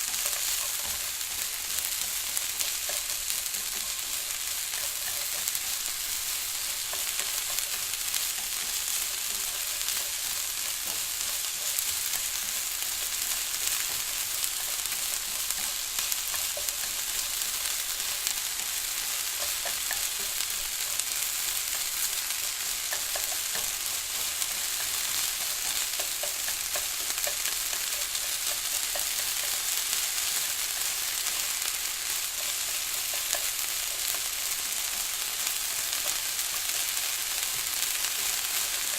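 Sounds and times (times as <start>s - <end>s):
onions sizzling: 0.0s - 38.9s.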